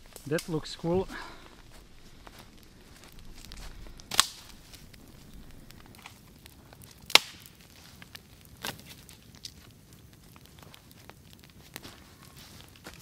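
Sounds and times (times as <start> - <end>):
wood cracking: 0.0 - 13.0.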